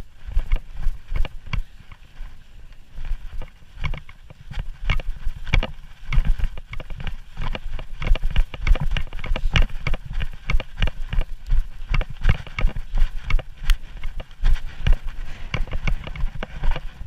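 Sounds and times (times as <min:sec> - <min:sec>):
footsteps crunching on snow: 0:00.0 - 0:17.0.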